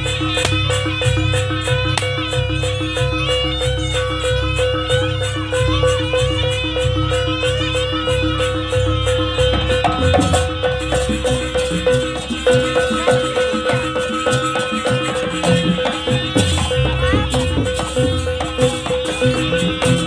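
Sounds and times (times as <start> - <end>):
gamelan ensemble playing: 0.0 - 20.0.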